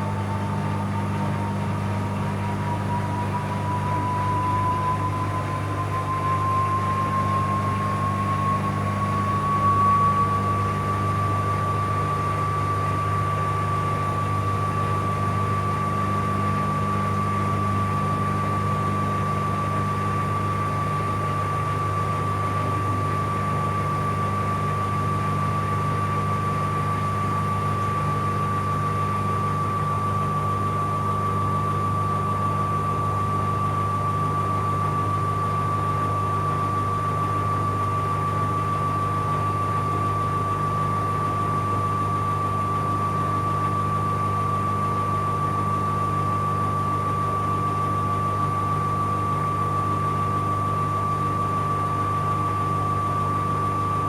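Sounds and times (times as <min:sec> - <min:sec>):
constant low hum: 0:00.0 - 0:49.8
washing machine motor whine: 0:00.0 - 0:54.0.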